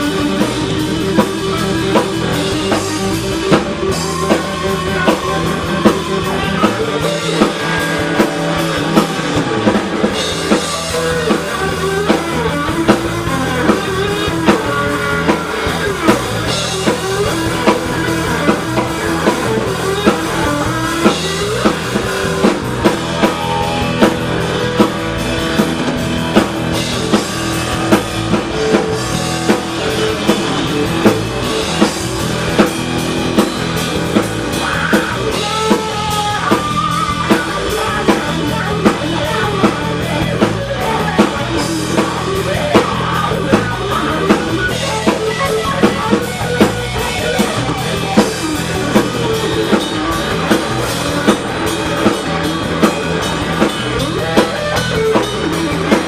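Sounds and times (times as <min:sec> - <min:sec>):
drum kit steady beat: 0:00.0 - 0:56.0
electric guitar: 0:00.0 - 0:56.0.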